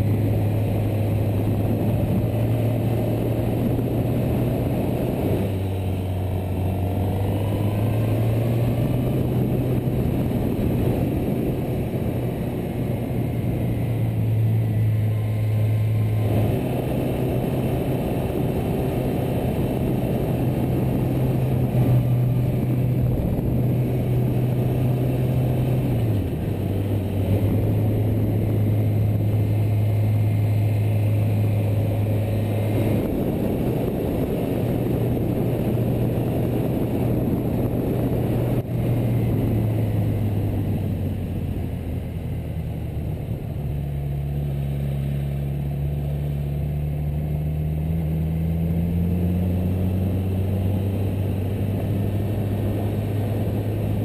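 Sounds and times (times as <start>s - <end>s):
heavy wind rush: 0.0s - 44.3s
motorcycle engine cruising: 0.0s - 54.0s.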